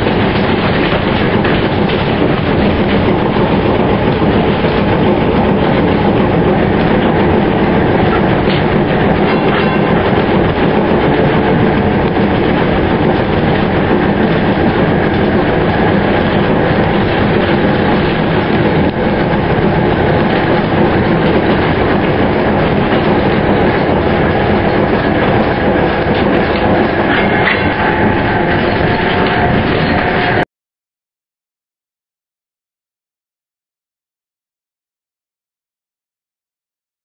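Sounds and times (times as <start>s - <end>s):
tram wheels rumbling on rails: 0.0s - 30.4s.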